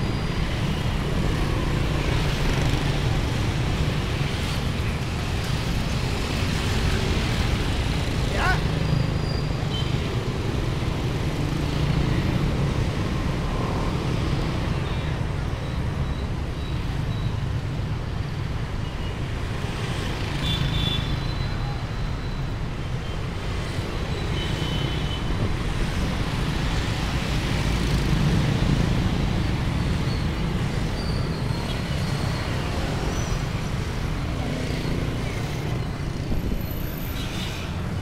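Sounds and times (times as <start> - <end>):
scooters and motorbikes in traffic: 0.0 - 38.0.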